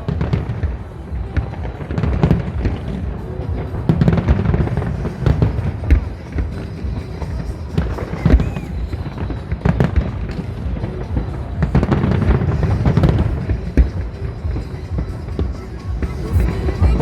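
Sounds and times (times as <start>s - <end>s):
fireworks bangs and crackles: 0.0s - 17.0s
music: 0.0s - 17.0s.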